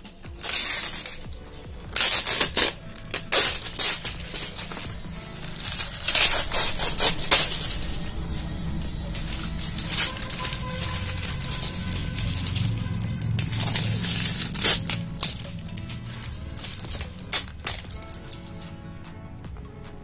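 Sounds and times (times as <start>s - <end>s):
plastic wrap crinkling: 0.0s - 18.8s
background music: 0.0s - 20.0s.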